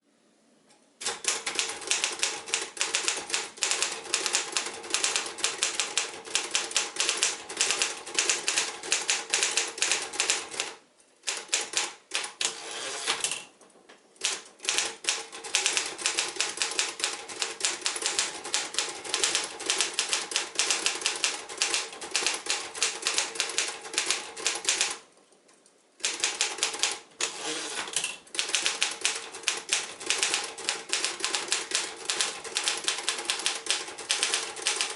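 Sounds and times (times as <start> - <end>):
typewriter keystrokes: 1.0 - 13.5, 14.2 - 25.1, 26.0 - 34.9.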